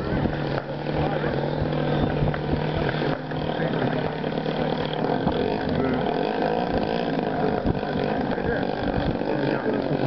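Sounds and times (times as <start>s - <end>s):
people's voices: 0.0s - 10.0s
propeller plane engine overhead: 0.0s - 10.0s.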